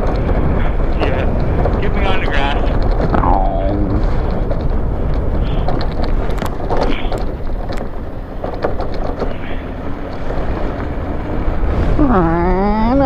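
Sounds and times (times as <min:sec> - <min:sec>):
bike knocks and rattles: 0:00.0 - 0:11.8
wind buffeting microphone: 0:00.0 - 0:13.0.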